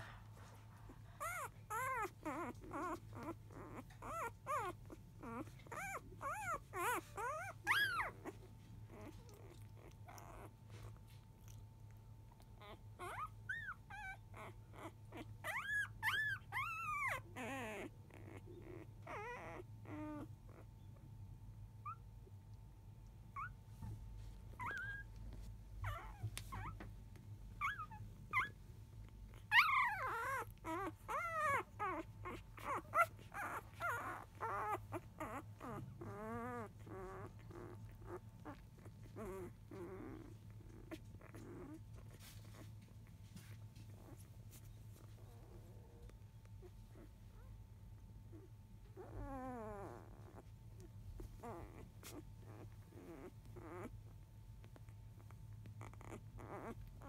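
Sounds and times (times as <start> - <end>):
puppies squeaking and whimpering: 0.9 - 10.9, 12.6 - 20.9, 24.4 - 26.9, 27.5 - 28.6, 29.2 - 47.6, 48.3 - 57.0.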